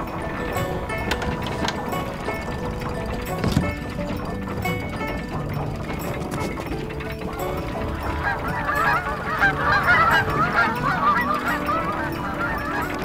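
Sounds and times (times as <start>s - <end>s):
background music: 0.0s - 13.0s
geese honking: 0.0s - 13.0s.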